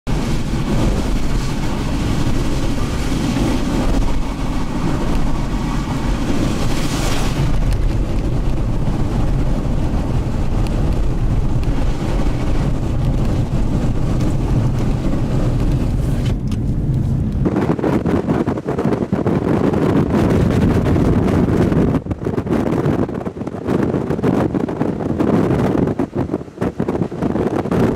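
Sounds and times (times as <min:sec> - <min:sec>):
wind blowing across microphone: 0:00.1 - 0:27.9.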